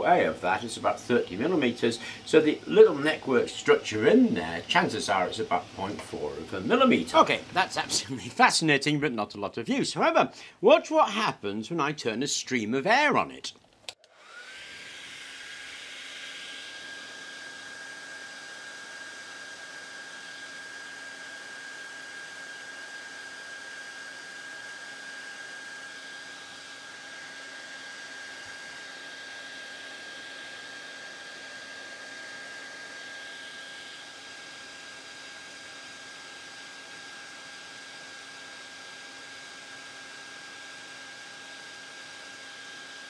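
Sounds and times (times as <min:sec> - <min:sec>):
hair dryer motor whine: 0:00.0 - 0:08.2, 0:13.9 - 0:43.0
hair dryer blowing air: 0:00.0 - 0:08.5, 0:13.9 - 0:43.0.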